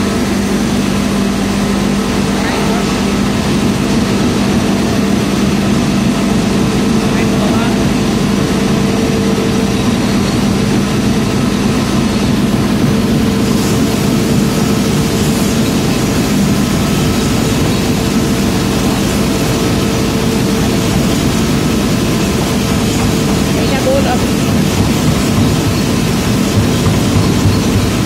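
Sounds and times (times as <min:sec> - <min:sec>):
forging machine drone: 0:00.0 - 0:28.0.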